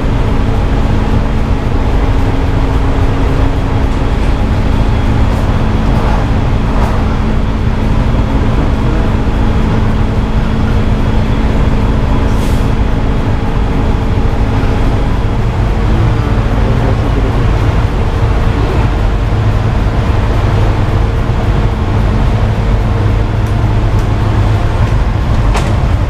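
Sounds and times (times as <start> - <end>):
motorcycle engine drone: 0.0 - 26.0
rushing noise: 0.0 - 26.0.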